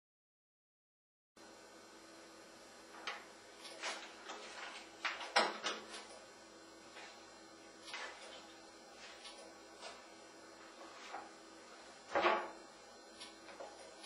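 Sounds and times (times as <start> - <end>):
faint steady hum: 1.4 - 14.0.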